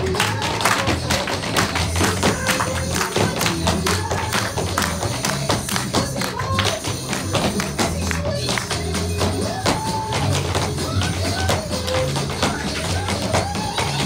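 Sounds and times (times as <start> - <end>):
tap shoes clicking on stage: 0.0 - 14.0.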